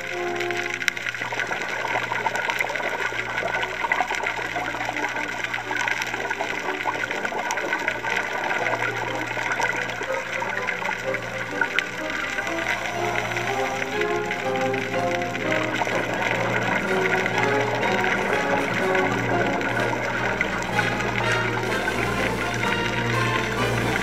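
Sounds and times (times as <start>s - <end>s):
crackle of tiny clicks: 0.0s - 21.3s
background music: 0.0s - 24.0s
underwater bubbling and gushing: 0.0s - 24.0s.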